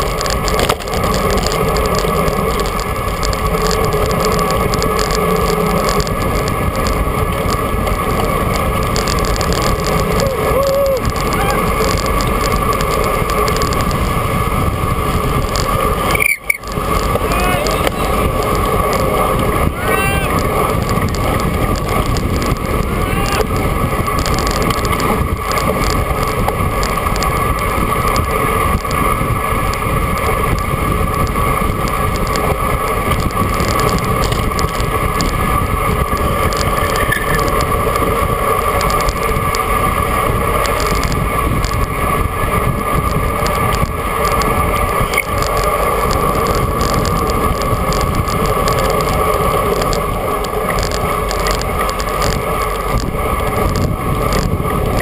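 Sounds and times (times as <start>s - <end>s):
bicycle tyre noise: 0.0s - 55.0s
constant hum: 0.0s - 55.0s
wind rush on microphone: 0.0s - 55.0s.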